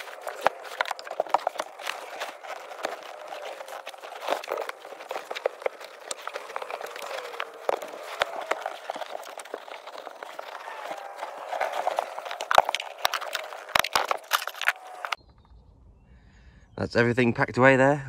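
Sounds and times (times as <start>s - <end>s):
bedding and gear rustling and knocking: 0.0s - 15.2s.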